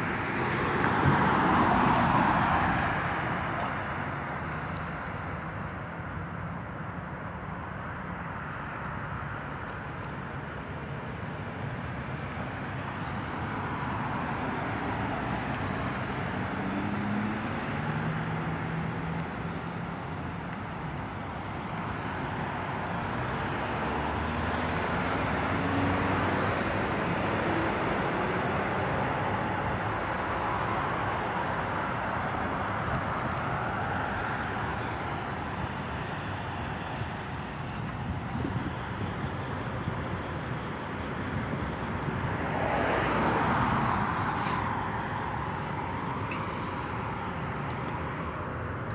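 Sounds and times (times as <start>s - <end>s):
passing vehicles tyre and engine noise: 0.0s - 48.9s.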